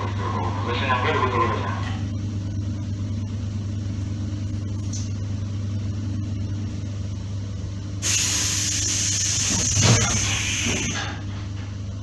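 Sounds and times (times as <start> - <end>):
electric train interior hum: 0.0 - 12.0.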